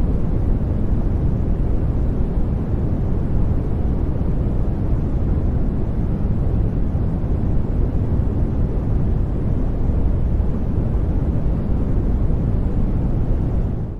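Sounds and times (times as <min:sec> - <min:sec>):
deep white noise rush: 0:00.0 - 0:13.9.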